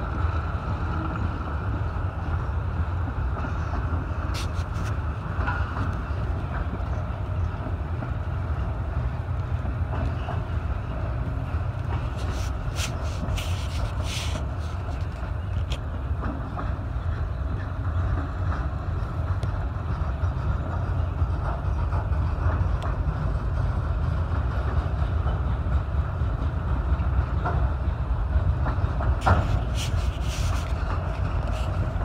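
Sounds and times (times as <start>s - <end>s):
train cars clanking and rattling: 0.0s - 32.0s
train wheels rumbling on rail: 0.0s - 32.0s.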